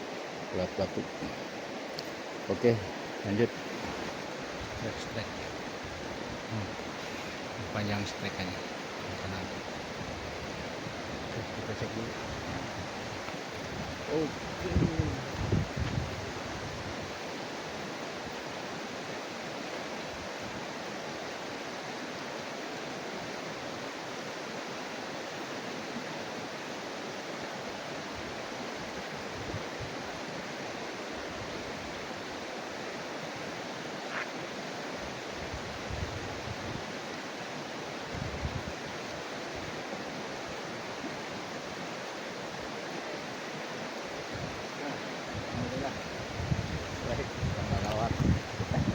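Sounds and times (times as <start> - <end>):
fast-flowing river rushing: 0.0 - 48.9.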